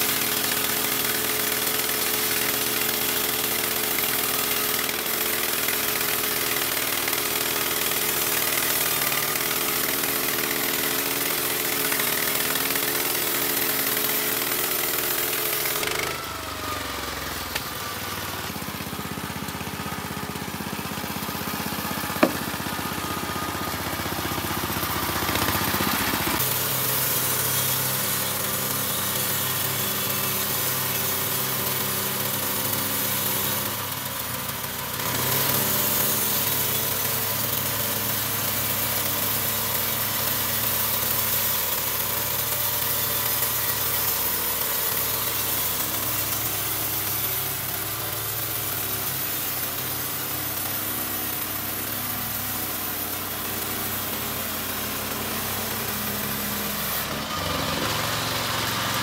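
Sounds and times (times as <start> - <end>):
bandsaw engine cutting log: 0.0 - 59.0.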